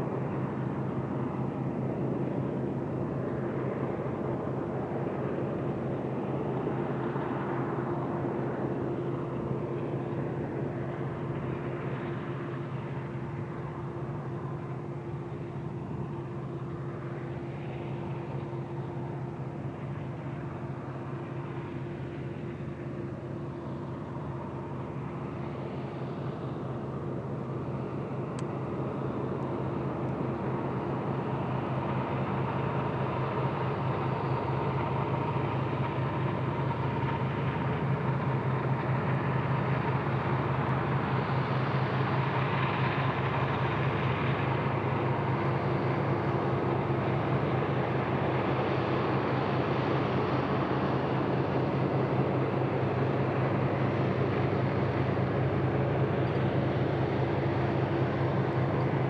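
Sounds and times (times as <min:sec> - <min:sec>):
locomotive diesel engine drone: 0:00.0 - 0:59.0.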